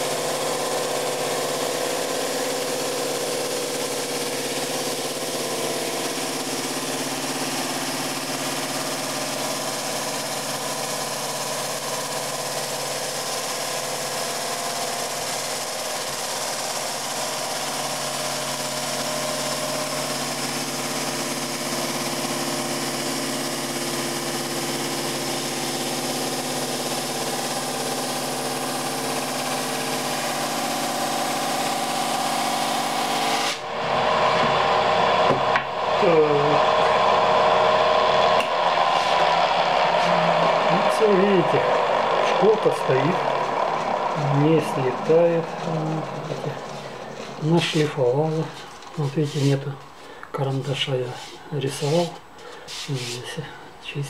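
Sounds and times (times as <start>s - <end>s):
drum sander motor humming: 0.0s - 54.0s.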